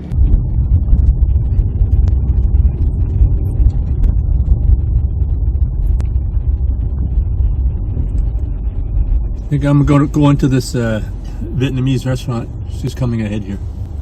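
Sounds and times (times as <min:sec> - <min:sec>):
car interior engine rumble: 0:00.0 - 0:14.0.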